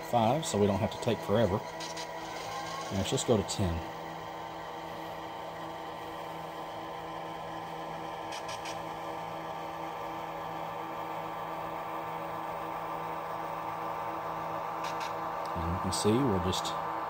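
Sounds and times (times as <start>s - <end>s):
model diesel locomotive engine sound: 0.0s - 17.0s.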